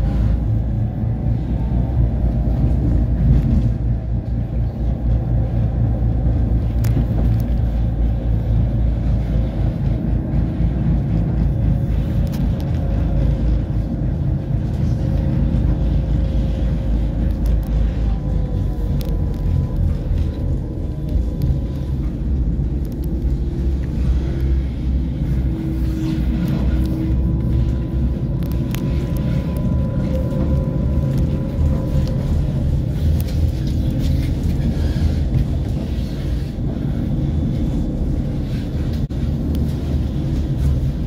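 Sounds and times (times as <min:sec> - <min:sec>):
faint whining tones: 0:00.0 - 0:41.0
tram wheels rumbling on rails: 0:00.0 - 0:41.0.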